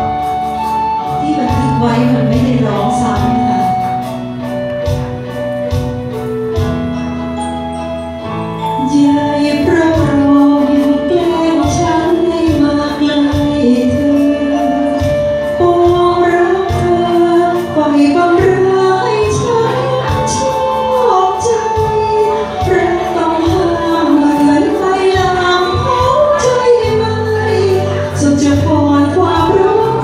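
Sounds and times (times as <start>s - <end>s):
woman singing into a microphone: 0.0s - 4.0s, 8.8s - 30.0s
amplified backing music with beat: 0.0s - 30.0s.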